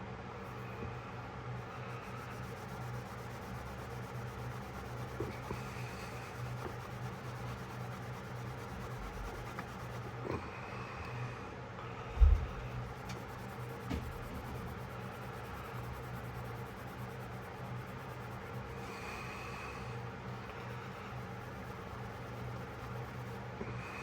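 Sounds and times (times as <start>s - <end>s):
low electrical hum: 0.0s - 24.0s
rubbing and handling noises: 1.6s - 10.4s, 12.2s - 24.0s.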